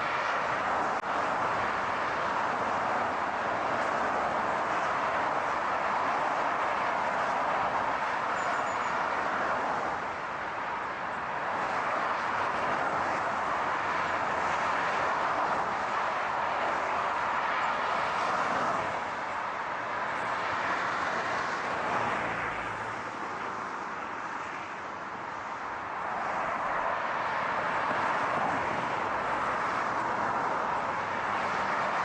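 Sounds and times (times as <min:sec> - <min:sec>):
car tyre and road noise: 0:00.0 - 0:32.0.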